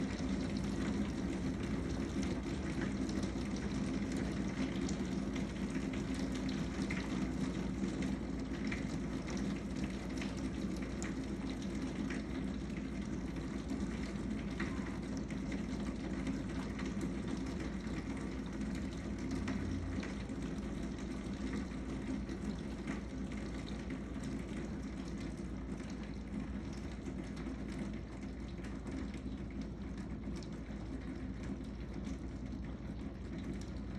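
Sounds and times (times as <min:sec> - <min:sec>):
heavy rain: 0:00.0 - 0:33.8
water pouring off gutters: 0:00.0 - 0:33.9.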